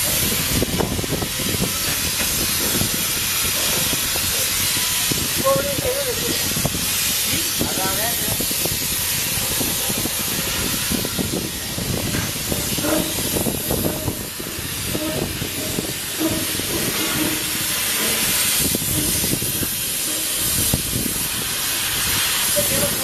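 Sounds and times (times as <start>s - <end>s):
spray gun hissing: 0.0s - 23.0s.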